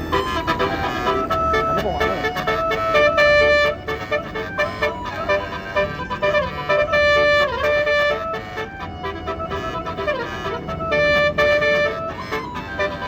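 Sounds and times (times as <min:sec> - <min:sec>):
bus musical horn playing a tune: 0:00.0 - 0:13.0.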